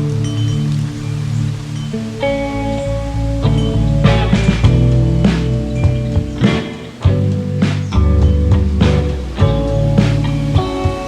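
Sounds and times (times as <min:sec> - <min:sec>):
background music with beat and bass: 0:00.0 - 0:11.0.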